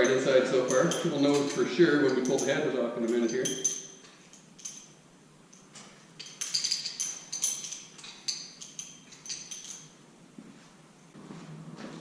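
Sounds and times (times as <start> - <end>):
metal parts clinking: 0.0 - 10.0.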